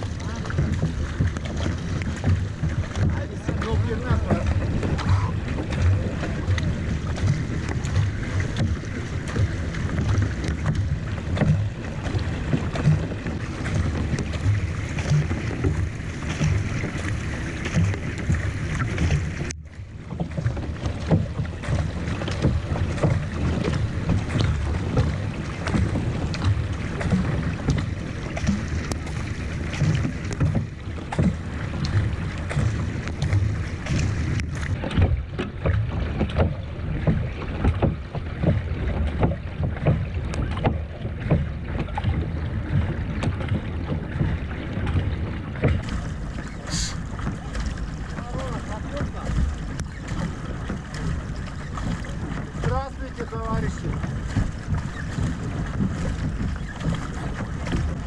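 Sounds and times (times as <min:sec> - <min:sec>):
kayak paddles splashing: 0:00.0 - 0:58.0
water rushing along hull: 0:00.0 - 0:58.0
wind buffeting microphone: 0:00.0 - 0:58.0.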